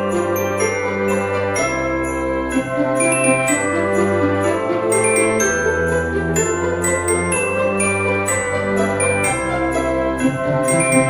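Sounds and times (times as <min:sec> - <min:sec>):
christmas sleigh bells ringing: 0:00.0 - 0:11.0.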